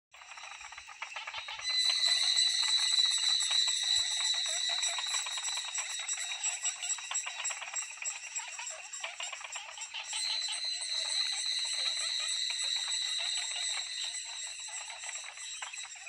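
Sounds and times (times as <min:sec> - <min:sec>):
insect clicks and chirps: 0:00.2 - 0:16.0
insects buzzing whine: 0:00.2 - 0:16.0.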